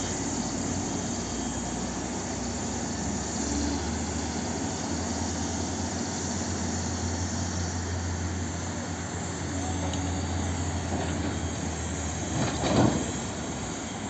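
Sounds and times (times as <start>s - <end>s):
excavator diesel engine under load: 0.0s - 14.0s.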